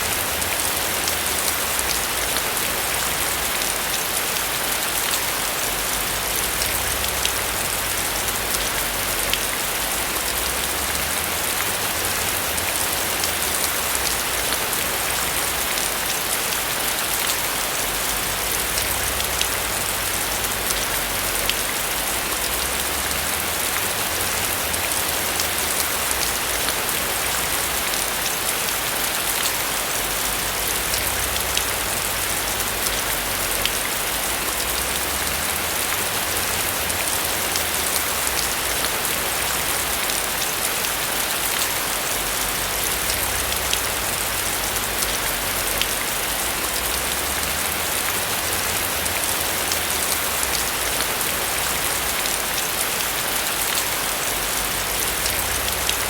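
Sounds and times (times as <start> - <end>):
rain falling on a roof: 0.0 - 56.0
raindrops ticking: 0.0 - 56.0.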